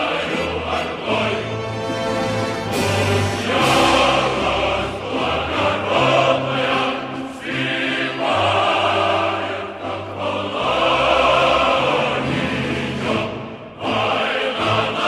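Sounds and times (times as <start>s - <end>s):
choir singing held notes: 0.0s - 15.0s
low musical accompaniment: 0.0s - 15.0s.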